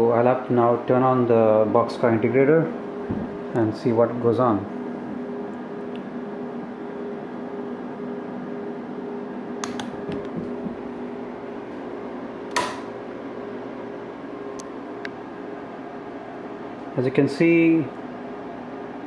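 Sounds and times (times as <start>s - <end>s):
instrument hum and fan noise: 0.0s - 19.0s.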